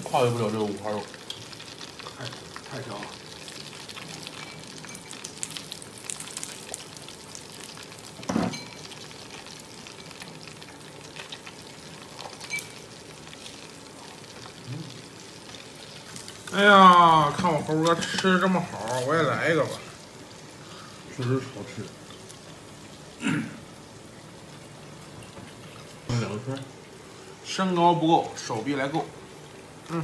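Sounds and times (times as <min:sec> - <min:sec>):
pork sizzling on a grill pan: 0:00.0 - 0:30.0.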